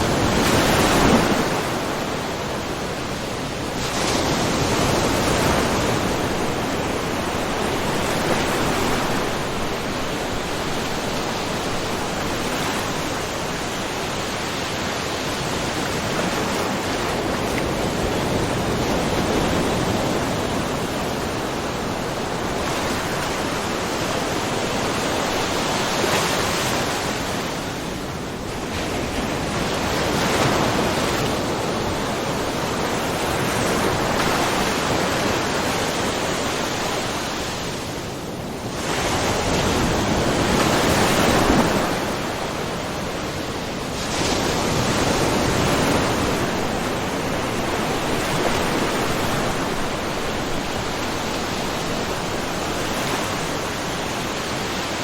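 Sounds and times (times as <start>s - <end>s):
waves washing over rocky shore: 0.0s - 55.0s.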